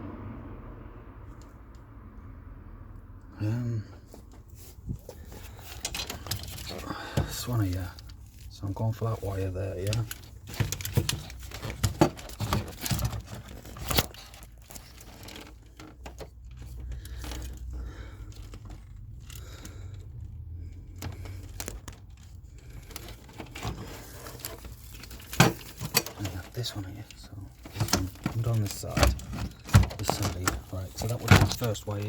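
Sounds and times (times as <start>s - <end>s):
rustles and light scrapes: 3.8s - 32.0s.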